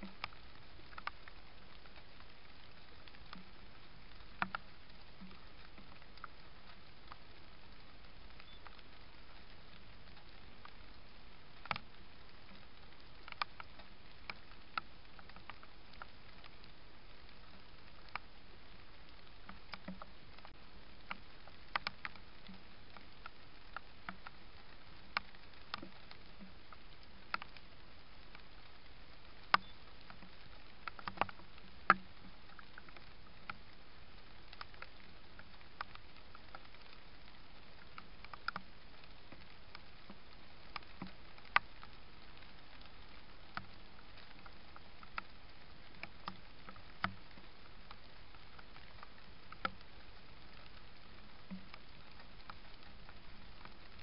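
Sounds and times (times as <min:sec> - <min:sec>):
microphone hiss: 0:00.0 - 0:54.0.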